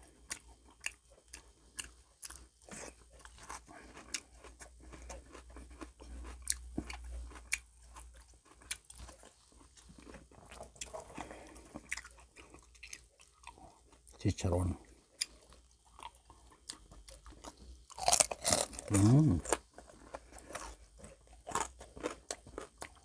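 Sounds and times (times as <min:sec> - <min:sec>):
person chewing crispy food: 0:00.0 - 0:23.0.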